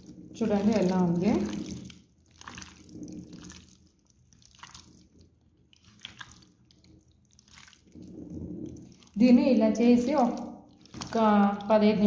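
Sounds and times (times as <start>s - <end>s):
wet squelching of stirred chicken: 0.0s - 12.0s.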